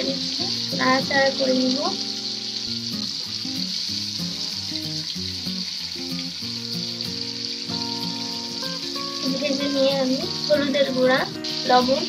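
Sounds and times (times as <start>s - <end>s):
paste sizzling in oil: 0.0s - 12.0s
soft instrumental melody: 0.0s - 12.0s.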